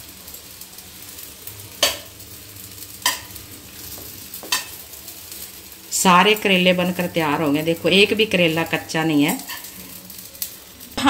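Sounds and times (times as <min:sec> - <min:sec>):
oil sizzling faintly: 0:00.0 - 0:11.0.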